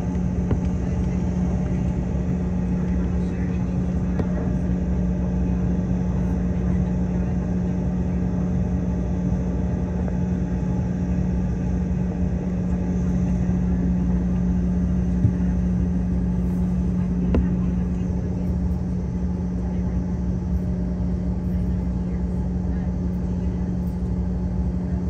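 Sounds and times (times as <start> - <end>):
jet aircraft engine rumble: 0.0 - 25.0.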